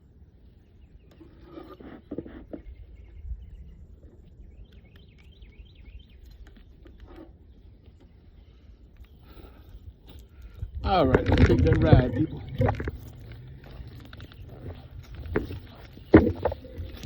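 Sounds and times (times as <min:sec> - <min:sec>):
wind rumble on microphone: 0:00.0 - 0:07.8, 0:09.2 - 0:17.0
bird singing: 0:00.0 - 0:17.0.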